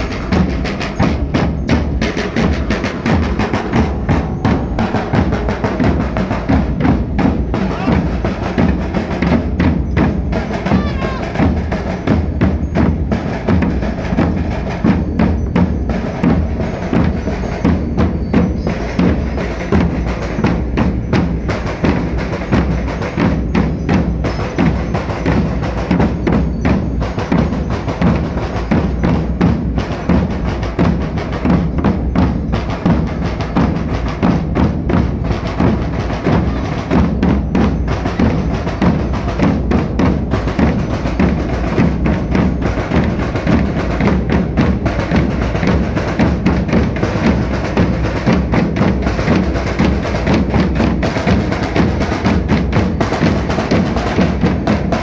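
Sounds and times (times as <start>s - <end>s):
bass drums beating: 0.0s - 55.0s
snare drums: 0.0s - 55.0s.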